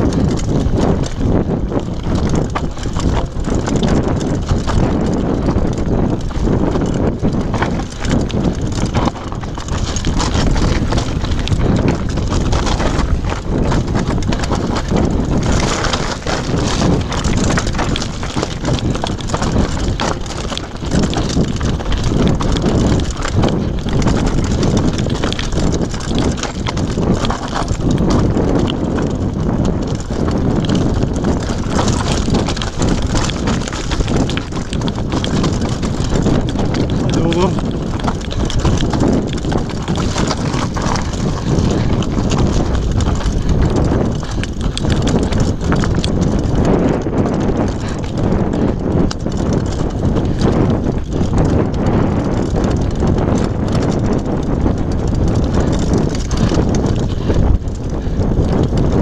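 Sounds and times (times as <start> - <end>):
bike rattling over bumps: 0.0 - 59.0.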